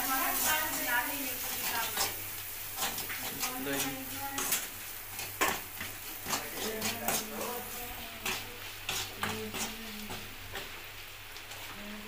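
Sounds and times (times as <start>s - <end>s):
metal spatula scraping a pan: 0.1s - 10.3s.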